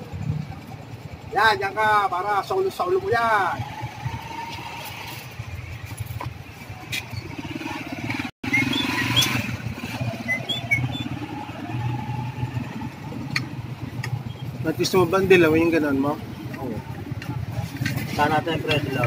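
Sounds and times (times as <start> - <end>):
motorcycle engine idling: 0.0 - 8.3, 9.3 - 19.0.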